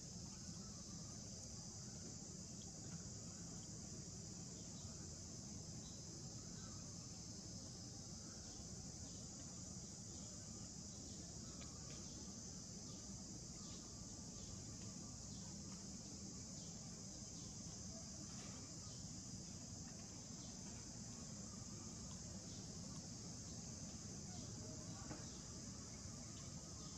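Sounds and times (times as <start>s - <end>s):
insect chorus drone: 0.0s - 26.9s.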